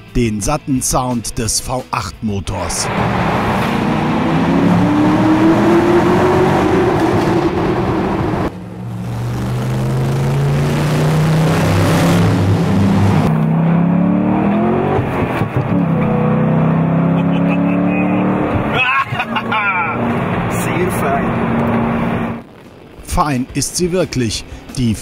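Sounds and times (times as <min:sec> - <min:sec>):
car engine accelerating: 0:02.6 - 0:23.0.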